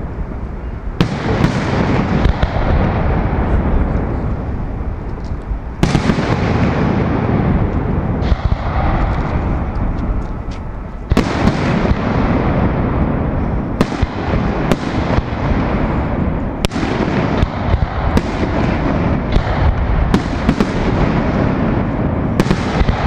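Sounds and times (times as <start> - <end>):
fireworks rumble of explosions: 0.0 - 23.0
sharp firework bangs: 1.0 - 4.9, 5.8 - 23.0.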